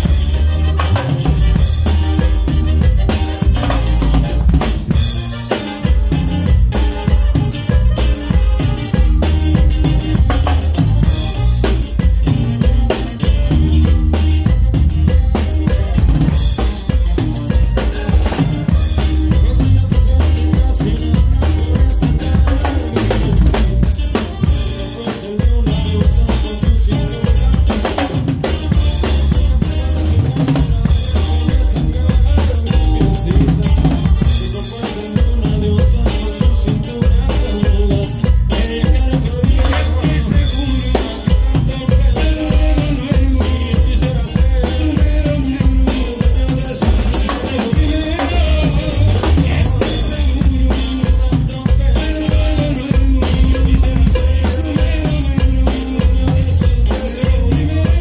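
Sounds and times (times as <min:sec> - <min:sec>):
band playing: 0:00.0 - 0:58.0
drum kit beat: 0:00.0 - 0:58.0.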